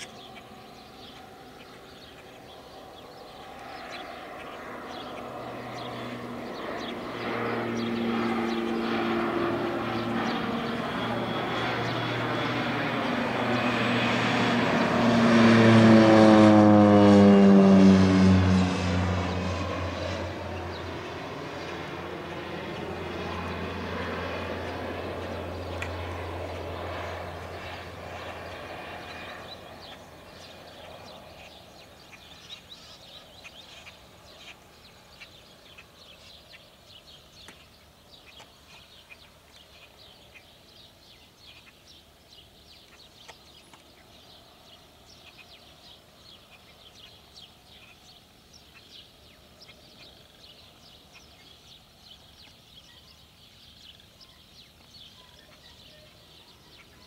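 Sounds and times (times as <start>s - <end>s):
airplane engine: 0.0s - 57.0s.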